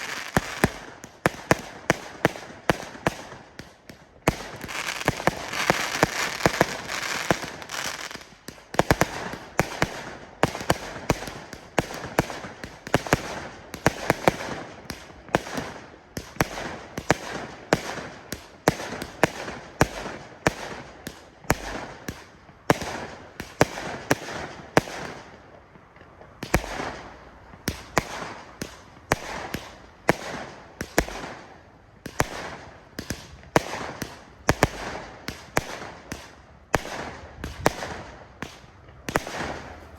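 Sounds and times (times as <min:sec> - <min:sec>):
fireworks firing sharp shots: 0:00.0 - 0:39.9.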